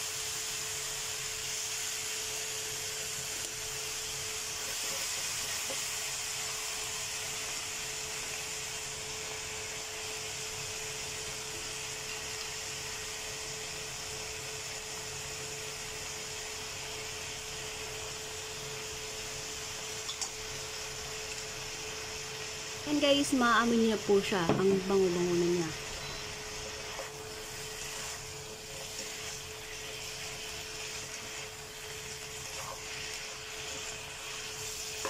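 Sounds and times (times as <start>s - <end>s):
chicken sizzling in a pan: 0.0s - 35.0s.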